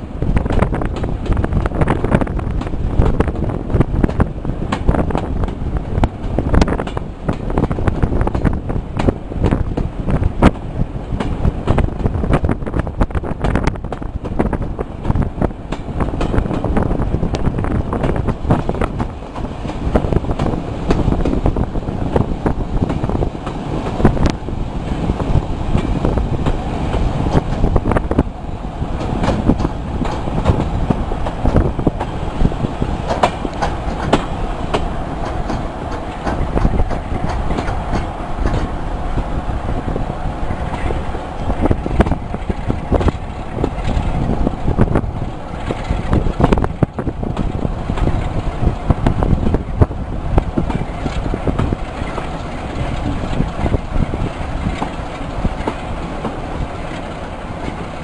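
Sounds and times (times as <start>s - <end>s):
wheels clicking over rail joints: 0.0s - 39.4s, 40.0s - 58.0s
train rumbling: 0.0s - 58.0s.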